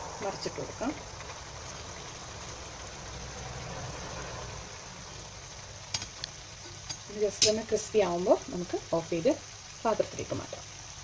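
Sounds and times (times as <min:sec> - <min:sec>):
oil sizzling and bubbling: 0:00.0 - 0:11.0.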